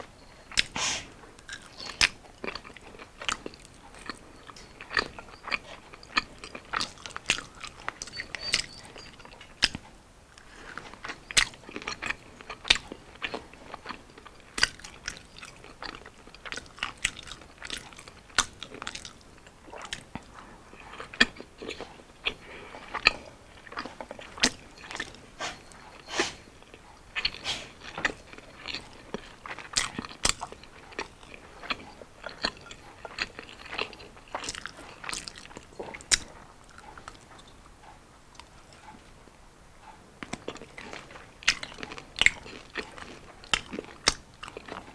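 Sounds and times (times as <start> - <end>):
crunchy chewing of fried food: 0.0 - 44.9.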